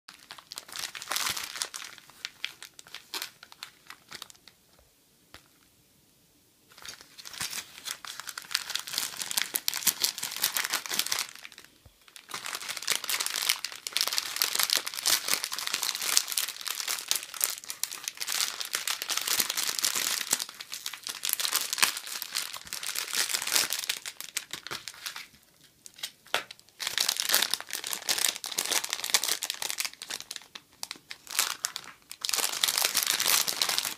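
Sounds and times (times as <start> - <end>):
plastic packaging crinkling: 0.1 - 4.6, 6.7 - 33.9.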